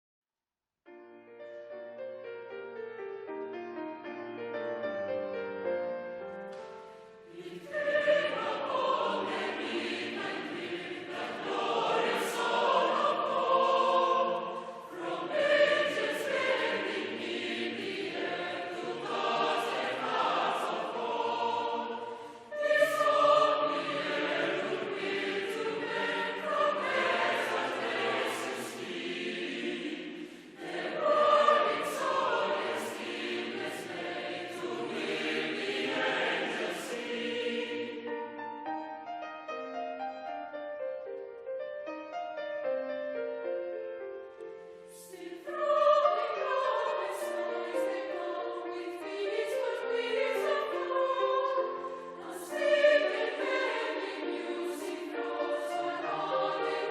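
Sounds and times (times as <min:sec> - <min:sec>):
choir singing: 0:04.4 - 0:38.7, 0:44.8 - 0:56.9.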